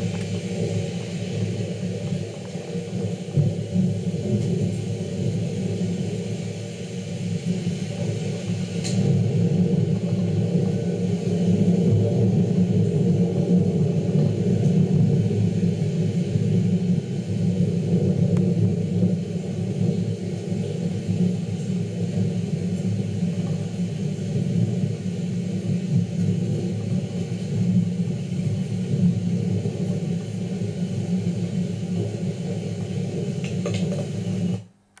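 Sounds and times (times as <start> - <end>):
thunderstorm rumble: 0.0 - 34.6.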